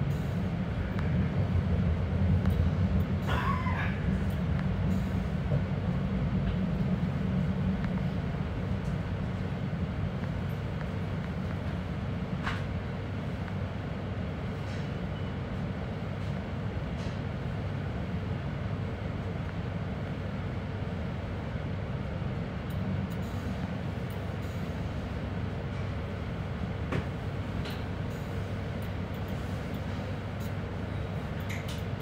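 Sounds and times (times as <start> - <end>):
train rumble and hum: 0.0 - 32.0.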